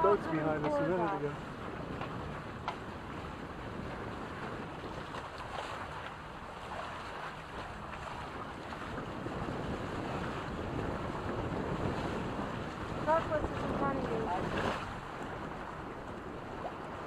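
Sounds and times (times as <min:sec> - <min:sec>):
water rushing along hulls: 0:00.0 - 0:17.0
wind rushing over microphone: 0:00.0 - 0:17.0.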